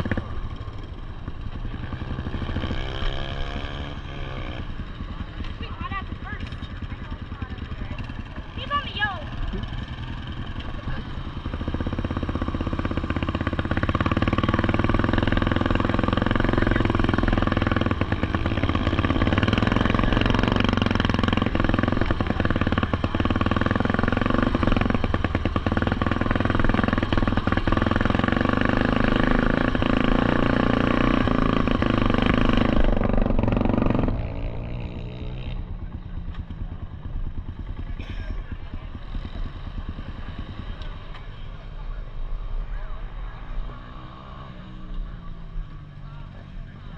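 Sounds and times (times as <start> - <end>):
small engines droning: 0.0 - 46.9.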